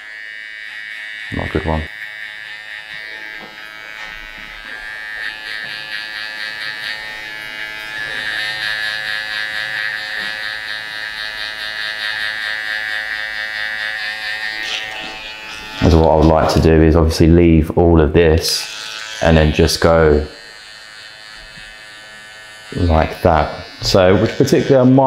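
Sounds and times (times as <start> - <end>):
electric hair trimmer buzzing: 0.0 - 17.4, 18.3 - 25.0.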